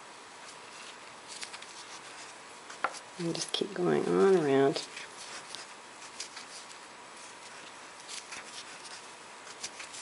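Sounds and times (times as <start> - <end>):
yarn rustling: 0.4 - 10.0.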